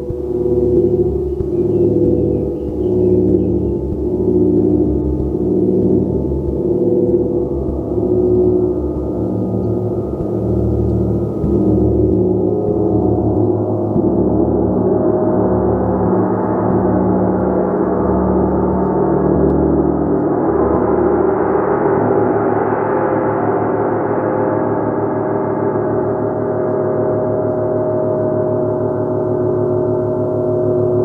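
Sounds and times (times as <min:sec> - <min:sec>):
gong sustained tones: 0:00.0 - 0:31.0.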